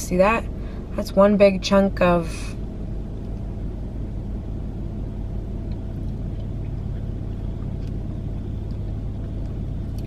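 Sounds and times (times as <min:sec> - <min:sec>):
vehicle humming: 0:00.0 - 0:10.0.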